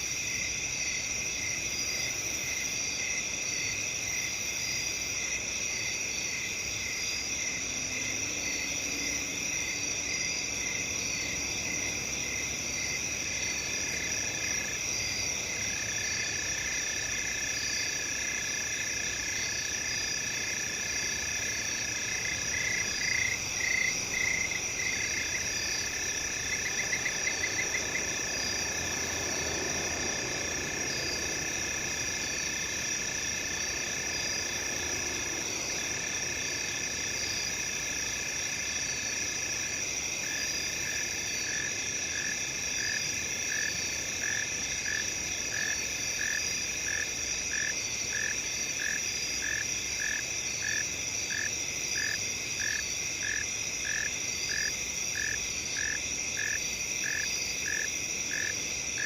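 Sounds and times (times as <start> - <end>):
crickets trilling: 0.0 - 59.0
insects chirping: 0.0 - 59.0.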